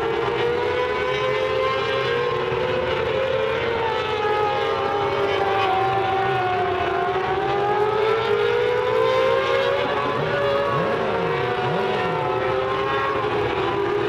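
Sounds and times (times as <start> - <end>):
engine revving: 0.0 - 14.0
racing car engines droning: 0.0 - 14.0.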